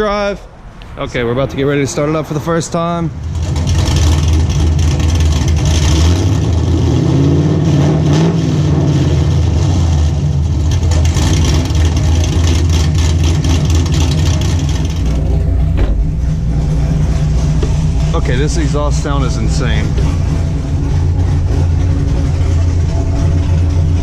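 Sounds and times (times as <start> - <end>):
car engine idling loudly: 0.0 - 24.0
engine revving: 0.0 - 24.0.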